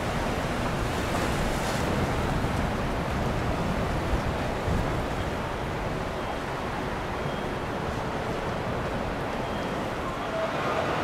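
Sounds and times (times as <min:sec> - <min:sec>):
wind buffeting microphone: 0:00.0 - 0:10.2
rushing water: 0:00.0 - 0:11.0.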